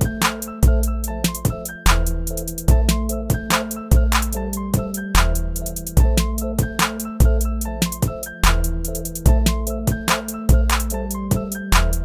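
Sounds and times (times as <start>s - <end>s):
instrumental music with drum beat: 0.0s - 12.0s.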